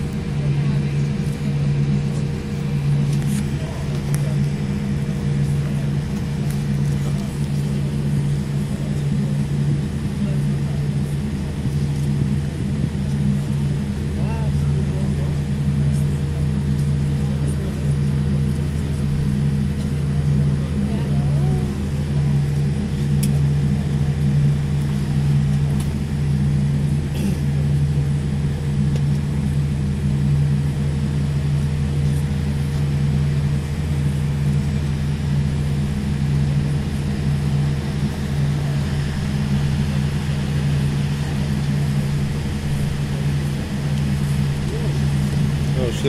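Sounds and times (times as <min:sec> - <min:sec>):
low drone of aircraft engines: 0:00.0 - 0:46.0
thin steady whine: 0:00.0 - 0:46.0.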